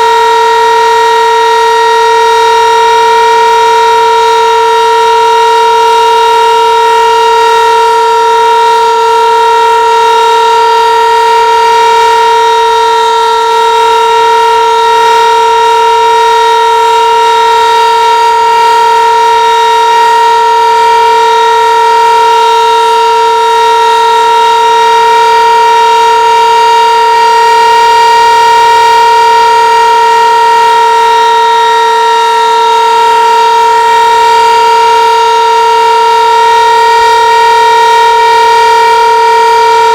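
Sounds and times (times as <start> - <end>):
warning siren steady pitch: 0.0 - 39.9.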